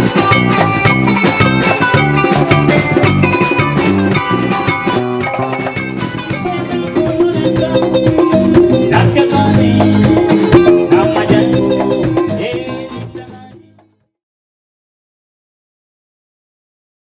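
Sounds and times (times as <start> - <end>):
drum kit steady beat: 0.0 - 13.9
plucked guitar lines: 0.0 - 13.9.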